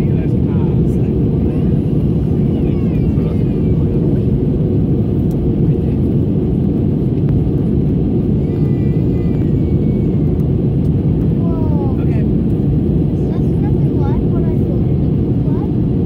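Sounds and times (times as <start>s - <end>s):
jet engine and airflow roar: 0.0s - 16.0s.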